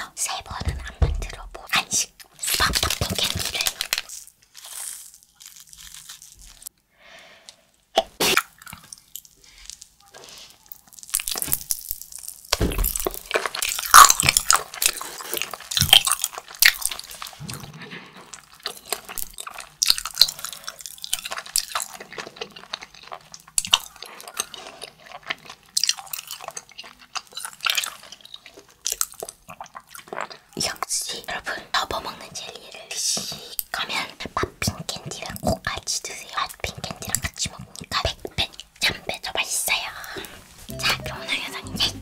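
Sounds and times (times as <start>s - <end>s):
crunching and chewing hard candy: 0.5s - 6.8s, 7.6s - 40.3s.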